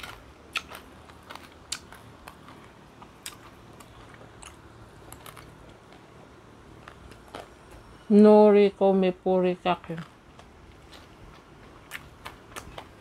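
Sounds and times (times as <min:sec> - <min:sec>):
person chewing crunchy food: 0:00.0 - 0:08.0, 0:09.9 - 0:13.0.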